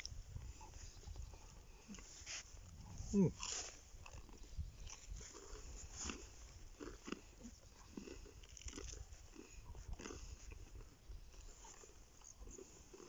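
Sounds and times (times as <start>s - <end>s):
people chewing and crunching food: 0.0s - 13.0s.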